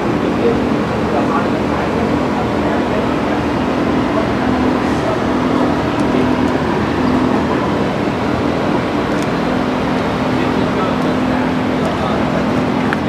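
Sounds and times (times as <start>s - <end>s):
constant low hum: 0.0s - 13.0s
steam locomotive rushing: 0.0s - 13.0s.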